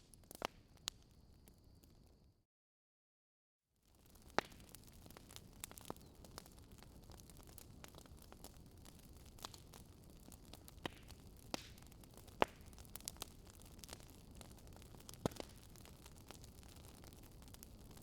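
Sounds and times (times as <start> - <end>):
wood fire crackling: 0.0 - 2.2, 3.9 - 18.0.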